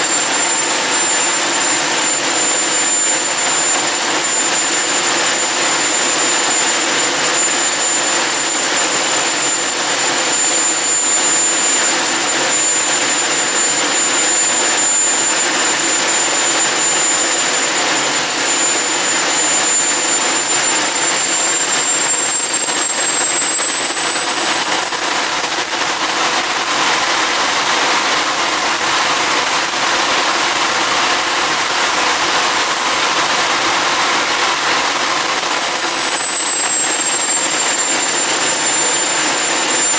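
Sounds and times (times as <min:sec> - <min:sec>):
high-pitched turbine whine: 0:00.0 - 0:39.9
jet engine rushing: 0:00.0 - 0:39.9.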